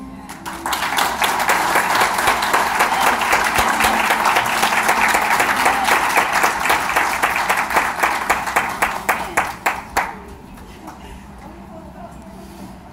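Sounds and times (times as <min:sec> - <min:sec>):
crowd clapping: 0:00.3 - 0:11.0.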